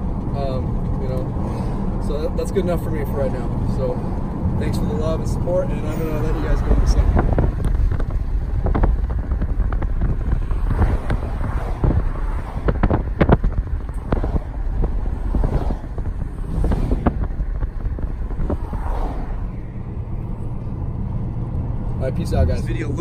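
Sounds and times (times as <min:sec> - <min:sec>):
car road rumble: 0:00.0 - 0:23.0.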